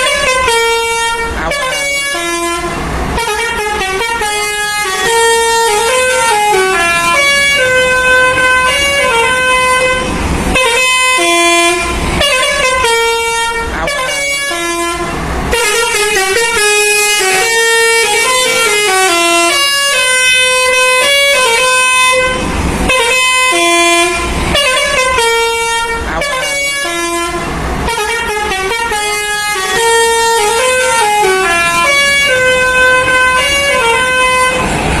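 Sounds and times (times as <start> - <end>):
multi-tone bus horn melody: 0.0 - 35.0.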